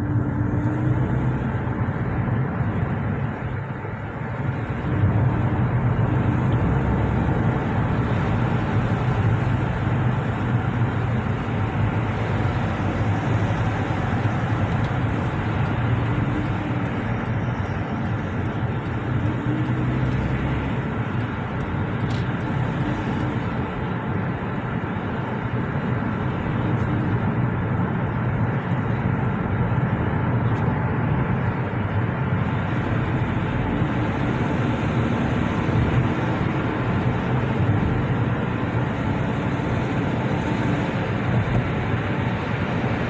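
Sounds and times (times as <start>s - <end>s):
low rumble of road traffic: 0.0s - 43.0s.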